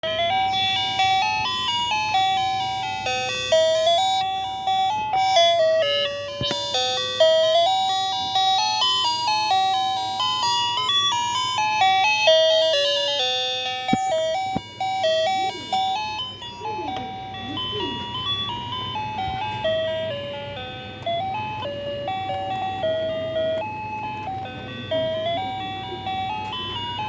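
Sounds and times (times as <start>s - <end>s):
toy alarm clock melody: 0.0s - 27.0s.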